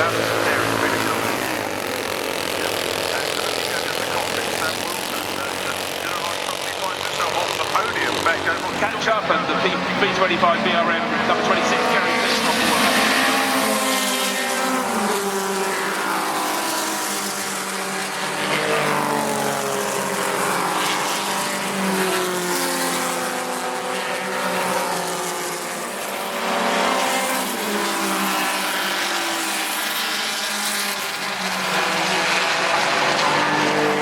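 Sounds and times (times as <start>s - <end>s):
racing cars passing at speed: 0.0s - 34.0s.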